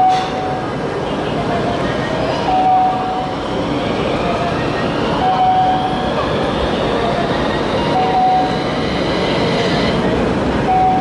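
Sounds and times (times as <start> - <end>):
tram wheel and running-gear noise: 1.5 - 11.0.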